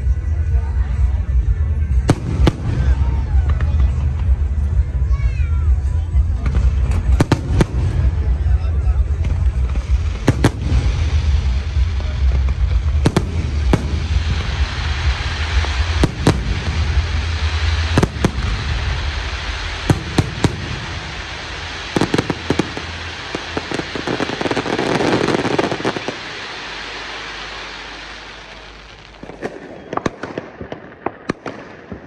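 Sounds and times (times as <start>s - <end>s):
firework crackling hiss: 0.0s - 32.0s.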